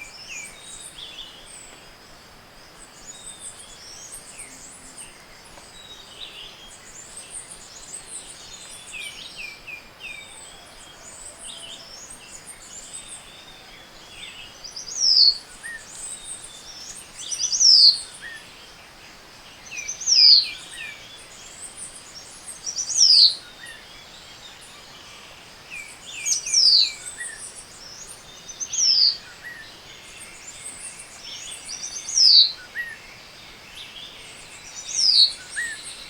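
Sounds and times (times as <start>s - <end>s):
forest birds chirping: 0.0s - 36.0s.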